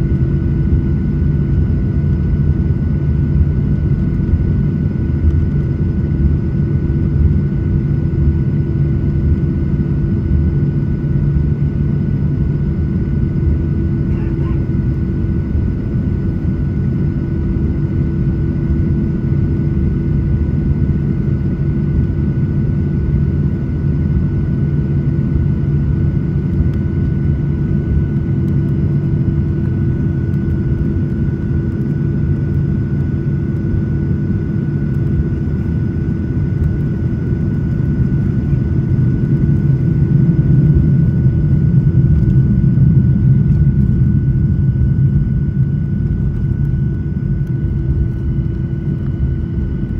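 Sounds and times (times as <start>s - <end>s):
constant whine: 0.0s - 49.9s
jet engines rumbling in cabin: 0.0s - 49.9s.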